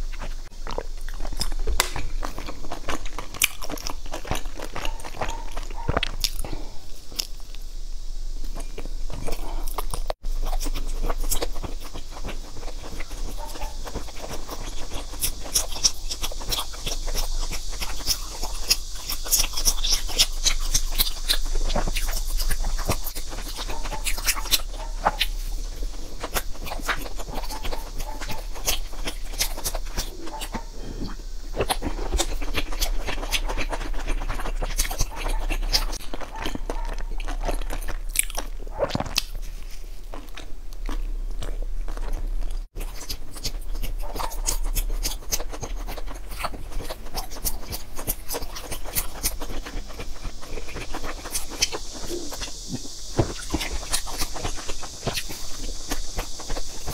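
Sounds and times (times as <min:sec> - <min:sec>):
wet mouth clicks: 0:00.0 - 0:07.7, 0:08.4 - 0:56.9
chewing soft pastry: 0:00.0 - 0:56.9.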